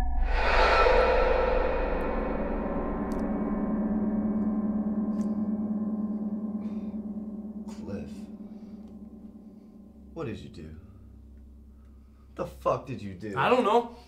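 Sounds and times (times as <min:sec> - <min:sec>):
gong-like ringing hit: 0:00.0 - 0:12.3
low drone: 0:00.0 - 0:12.8.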